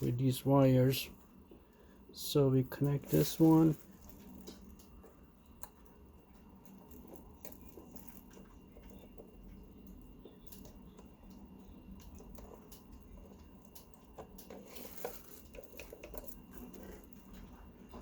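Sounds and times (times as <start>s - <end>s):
light handling noises: 2.4s - 18.0s.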